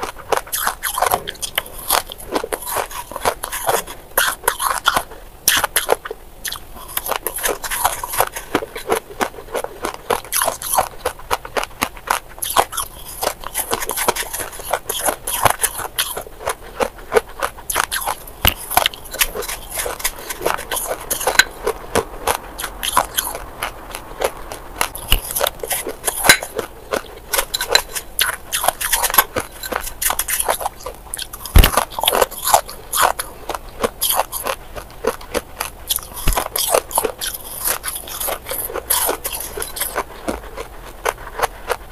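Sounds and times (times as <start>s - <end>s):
chewing crunchy shaved ice: 0.0s - 41.9s.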